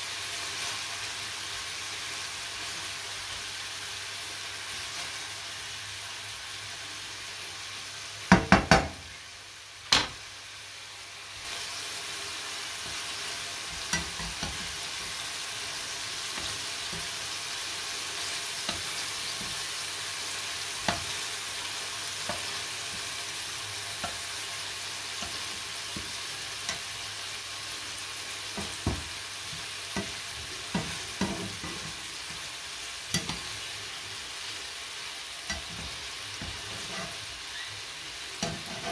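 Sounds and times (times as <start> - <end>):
meatballs sizzling in a pan: 0.0 - 38.9.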